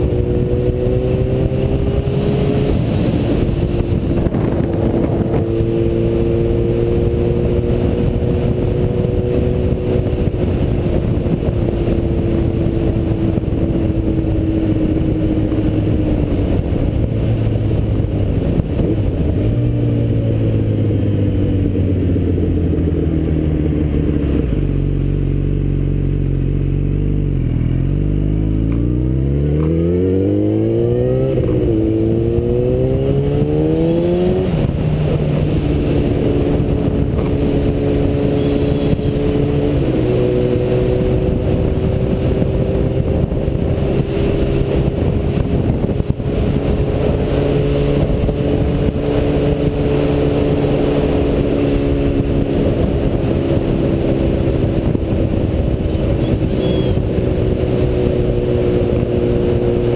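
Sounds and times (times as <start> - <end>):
motorcycle engine accelerating: 0.0 - 59.9
wind rushing over microphone: 0.0 - 59.9.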